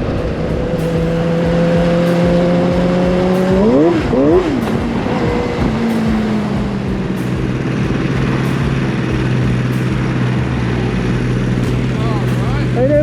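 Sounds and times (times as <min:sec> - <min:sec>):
go-kart engine running: 0:00.0 - 0:13.0.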